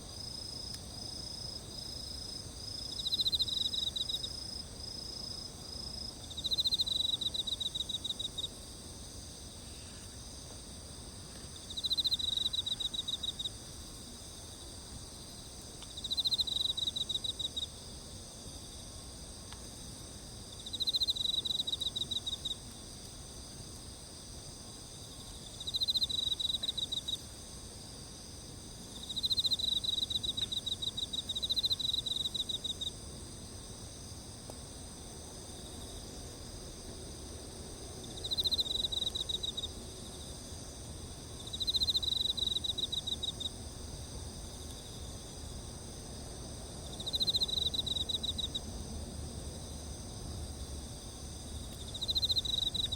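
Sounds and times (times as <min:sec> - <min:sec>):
insect chorus chirping: 0:00.0 - 0:52.9.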